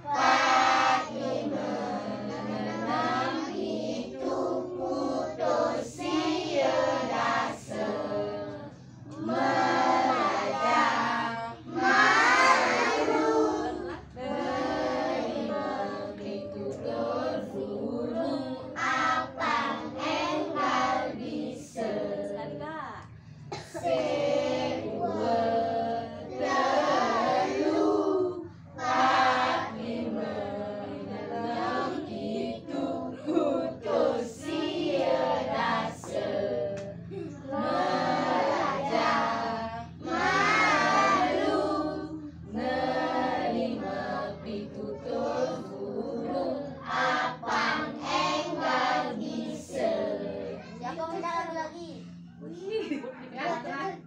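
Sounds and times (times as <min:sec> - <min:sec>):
children singing: 0:00.0 - 0:22.4, 0:23.5 - 0:50.9.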